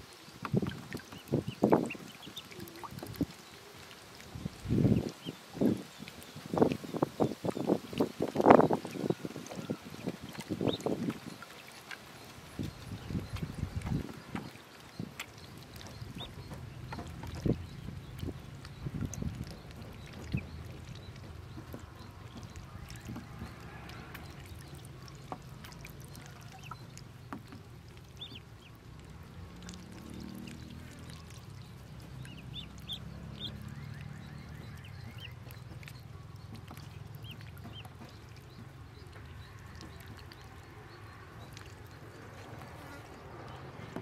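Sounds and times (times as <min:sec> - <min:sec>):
small water splashes: 0:00.0 - 0:44.0
ducklings peeping: 0:00.1 - 0:44.0.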